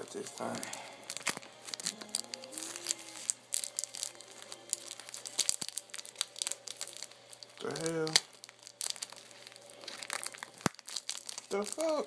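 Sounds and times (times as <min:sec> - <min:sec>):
paper and plastic crinkling: 0:00.0 - 0:12.0.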